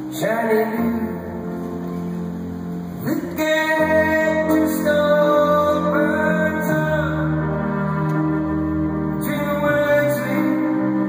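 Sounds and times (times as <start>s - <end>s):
man singing: 0.0s - 1.6s, 3.0s - 11.0s
piano: 0.0s - 11.0s.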